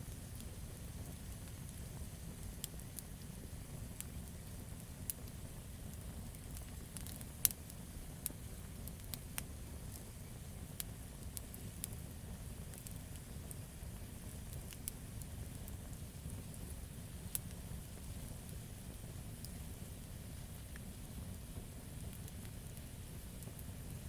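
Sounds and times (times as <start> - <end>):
campfire flames rumbling: 0.0 - 24.0
burning logs popping and snapping: 0.1 - 24.0.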